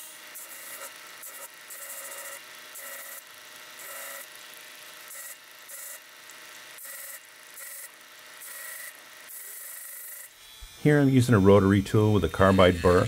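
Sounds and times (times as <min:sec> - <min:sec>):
belt grinder running: 0:00.0 - 0:13.0.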